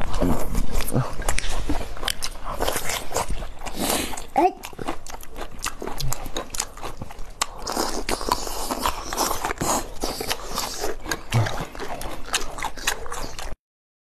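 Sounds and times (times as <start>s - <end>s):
chewing: 0.0s - 13.6s.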